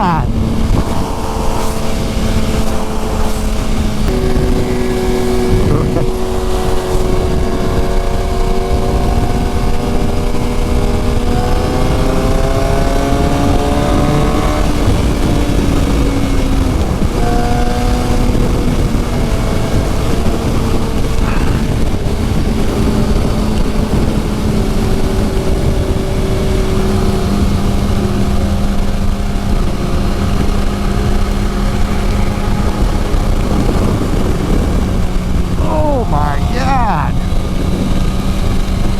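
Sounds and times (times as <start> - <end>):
wind rush: 0.0 - 27.6, 28.7 - 38.9
motorcycle engine running: 0.3 - 35.8.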